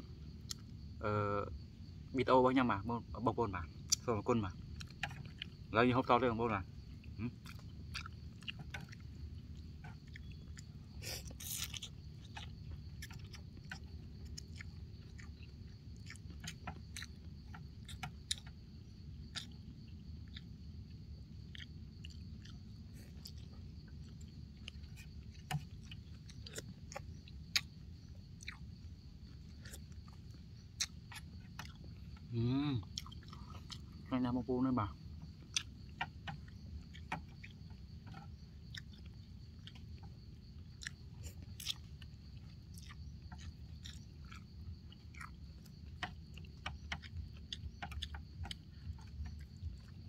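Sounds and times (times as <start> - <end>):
low background hum: 0.0 - 50.0
person chewing: 0.3 - 0.8, 3.9 - 5.7, 6.8 - 34.1, 35.0 - 50.0.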